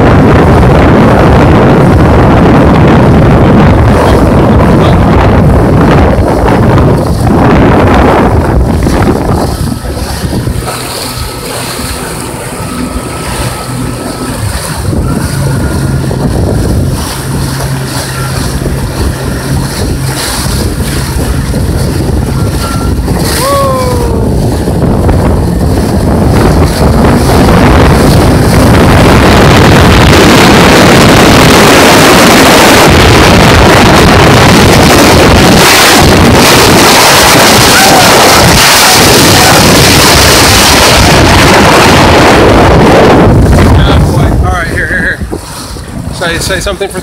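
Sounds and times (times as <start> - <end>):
falling whine: 0.0 - 44.5
jet ski engine running: 0.0 - 47.0
wind rushing over microphone: 0.0 - 47.0.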